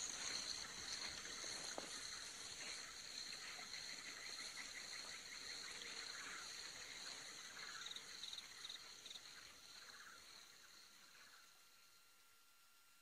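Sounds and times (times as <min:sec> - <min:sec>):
trilling insect chirps: 0:00.0 - 0:12.4
insects buzzing: 0:00.0 - 0:13.0.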